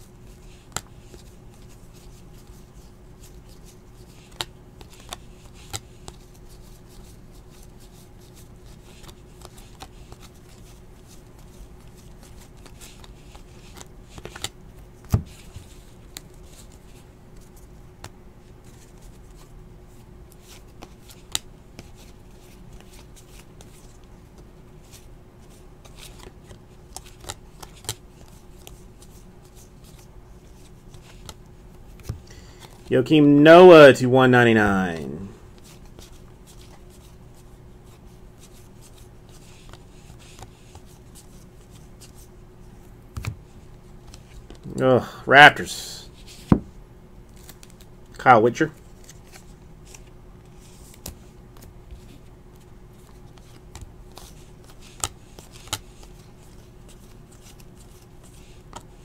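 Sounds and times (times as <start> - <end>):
cards sliding and flipping: 0.2 - 24.1, 24.8 - 32.9, 35.5 - 44.8, 48.7 - 59.0.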